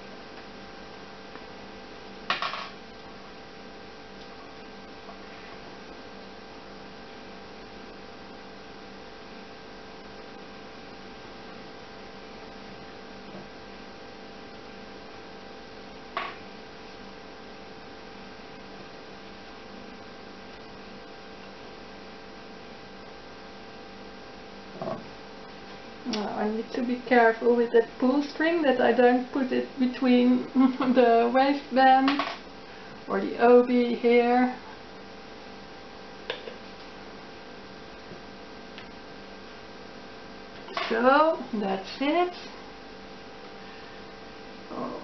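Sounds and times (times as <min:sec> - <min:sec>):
electrical mains hum: 0:00.0 - 0:45.0.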